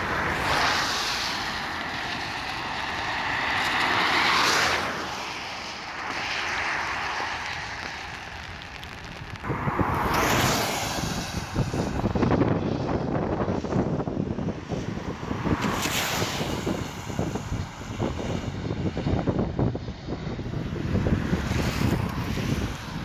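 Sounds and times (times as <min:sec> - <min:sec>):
airliner engine noise: 0:00.0 - 0:23.0
wind buffeting microphone: 0:00.0 - 0:23.0.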